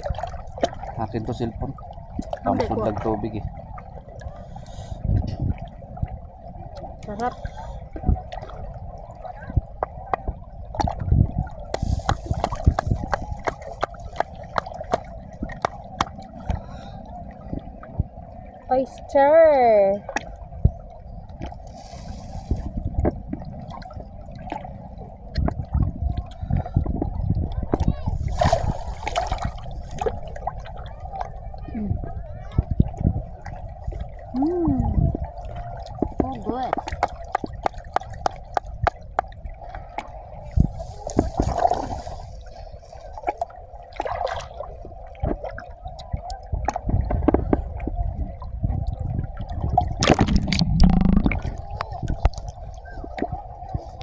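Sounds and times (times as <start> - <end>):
steady low rumble: 0.0 - 54.0
water sloshing and trickling: 0.0 - 54.0.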